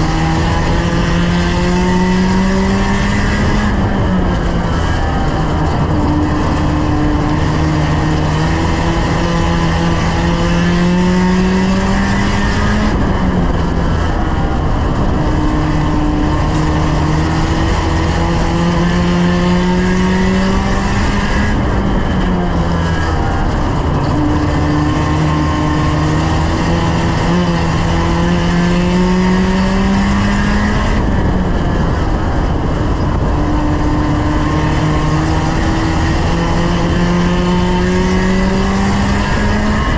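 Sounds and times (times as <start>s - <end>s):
race car engine revving under load: 0.0s - 39.9s.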